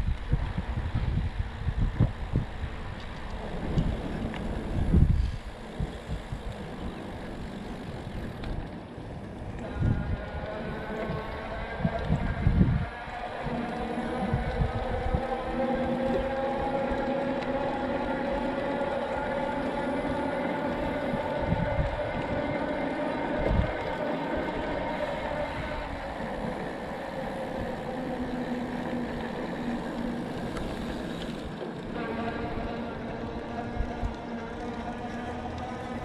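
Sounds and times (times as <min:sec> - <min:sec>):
mechanical drone: 0:00.0 - 0:36.0
wind buffeting microphone: 0:00.0 - 0:36.0.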